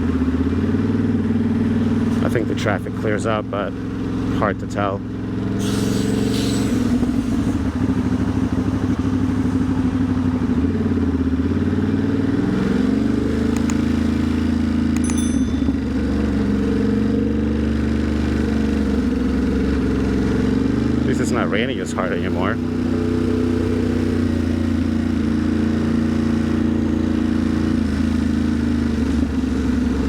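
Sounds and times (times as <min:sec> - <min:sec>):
motorcycle engine revving: 0:00.0 - 0:30.0
wind and road noise: 0:03.6 - 0:30.0.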